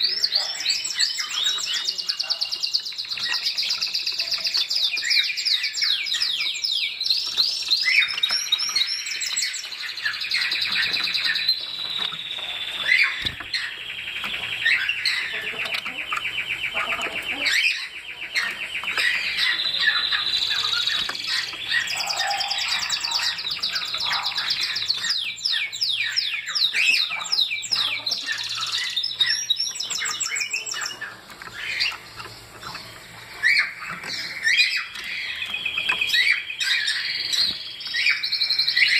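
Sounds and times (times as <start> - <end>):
finches chirping and trilling: 0.0 - 38.9.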